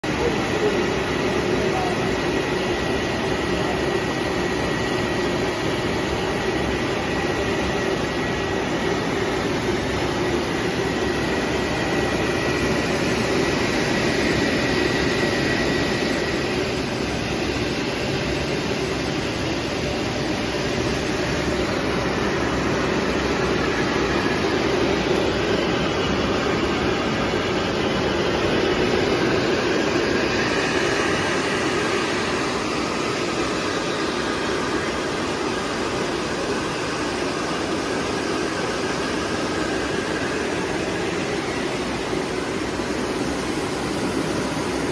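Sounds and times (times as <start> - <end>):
printing press mechanical drone: 0.1 - 44.9.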